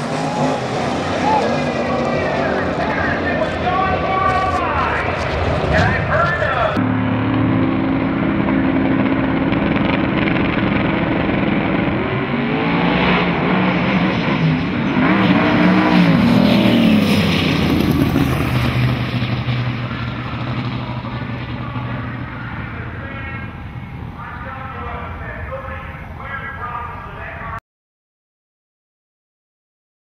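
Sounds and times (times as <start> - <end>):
drag race car engines: 0.0 - 27.6.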